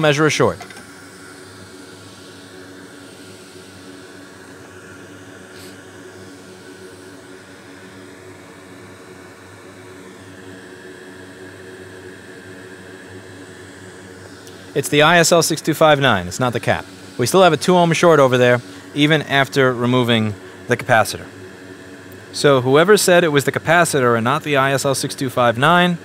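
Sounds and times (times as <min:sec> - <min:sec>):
blower fan whirring: 0:00.0 - 0:26.0.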